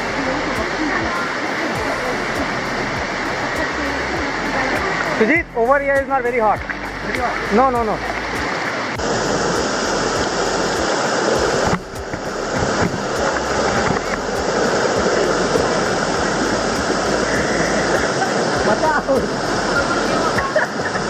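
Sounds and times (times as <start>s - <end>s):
water cascading over rocks: 0.0s - 21.0s.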